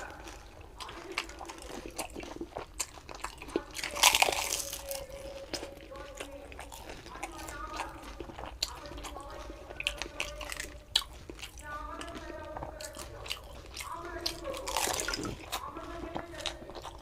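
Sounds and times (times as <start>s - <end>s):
chewing and wet mouth sounds: 0.0s - 17.0s
crisp shells crunching in mouth: 0.0s - 17.0s.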